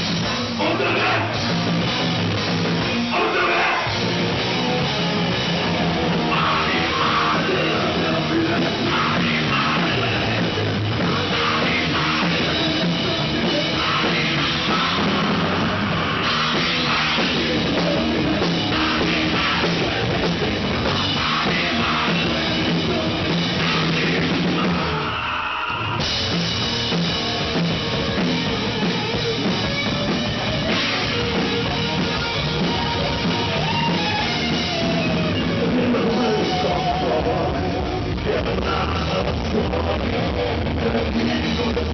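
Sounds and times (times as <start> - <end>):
distorted electric guitars: 0.0 - 41.9
heavy rock band playing: 0.0 - 41.9
pounding drum kit with cymbals: 0.0 - 41.9.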